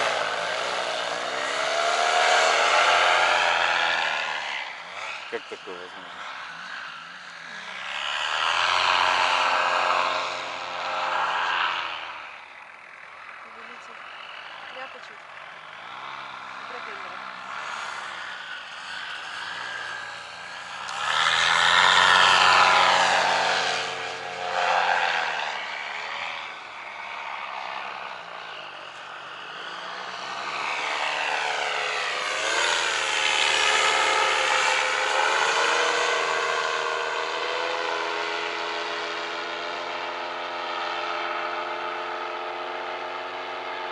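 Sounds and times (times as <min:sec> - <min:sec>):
paramotor engine droning: 0:00.0 - 0:43.9.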